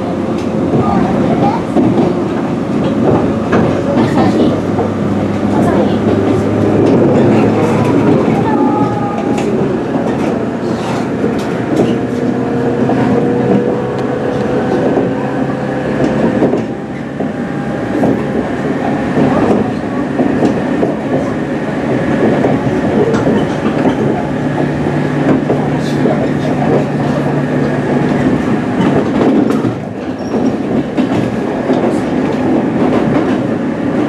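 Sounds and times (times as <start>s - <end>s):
rail joint clicks: 0.0s - 34.0s
train wheels rumbling on rail: 0.0s - 34.0s.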